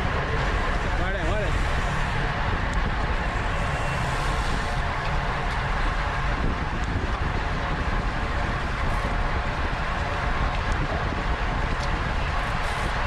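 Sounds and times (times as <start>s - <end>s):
bicycle road noise: 0.0s - 13.0s
wind noise: 0.0s - 13.0s.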